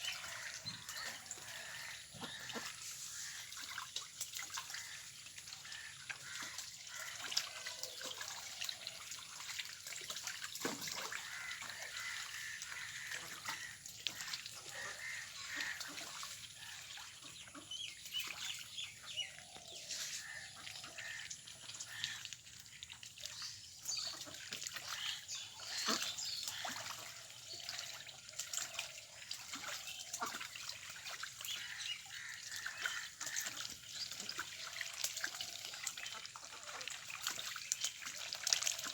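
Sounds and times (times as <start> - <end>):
ducks splashing in water: 0.0 - 38.9.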